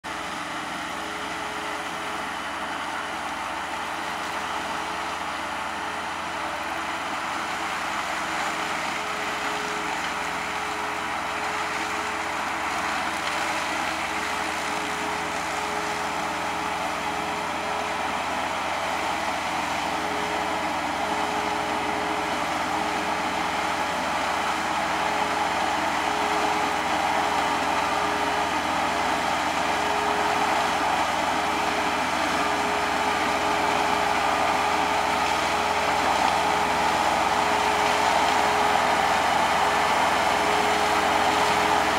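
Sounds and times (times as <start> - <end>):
mower engine running: 0.0 - 41.9.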